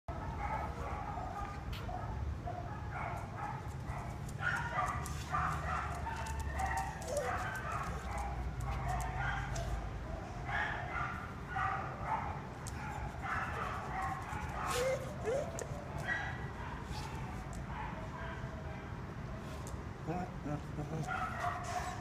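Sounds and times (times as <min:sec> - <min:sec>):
dogs barking and yelping: 0:00.1 - 0:18.8, 0:21.0 - 0:22.0.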